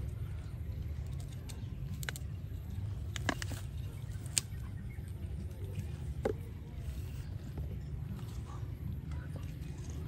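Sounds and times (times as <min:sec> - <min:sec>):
grass and leaves crackling: 0:00.0 - 0:10.0
low steady rumble: 0:00.0 - 0:10.0.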